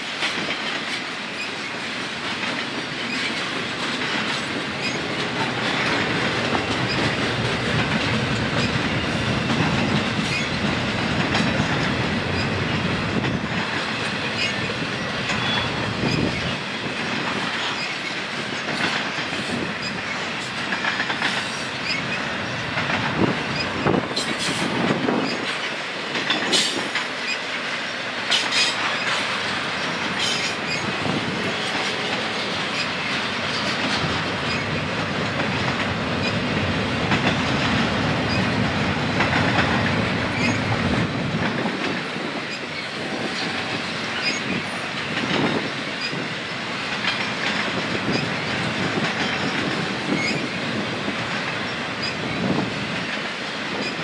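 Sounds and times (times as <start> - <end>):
wheels squealing on rail: 0.0 - 10.7, 11.3 - 36.6, 37.2 - 54.0
train wheels clacking on rails: 0.0 - 54.0.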